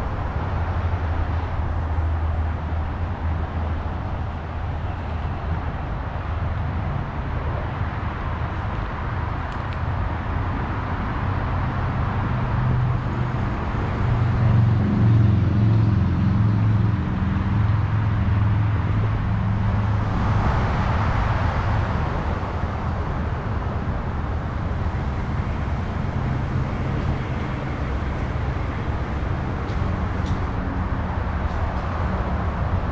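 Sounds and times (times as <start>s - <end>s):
low engine hum: 0.0s - 32.9s
road traffic noise: 0.0s - 32.9s.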